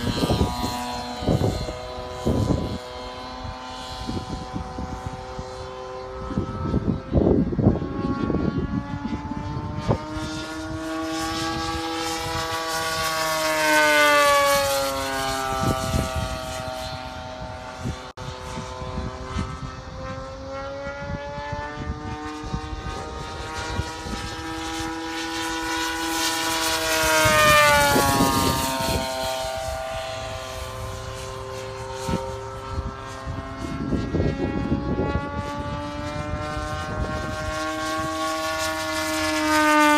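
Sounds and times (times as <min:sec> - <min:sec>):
model plane engine passing: 0:00.0 - 0:39.9
wind buffeting microphone: 0:00.0 - 0:39.9.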